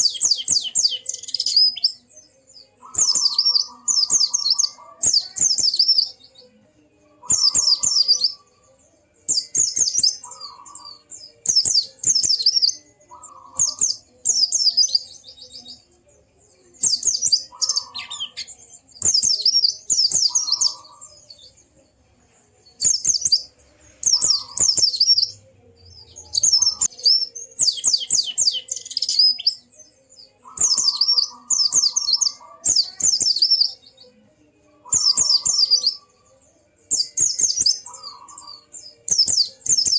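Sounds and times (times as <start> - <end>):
bird chattering song: 0.0 - 6.5, 7.1 - 21.7, 22.6 - 34.0, 34.7 - 39.9.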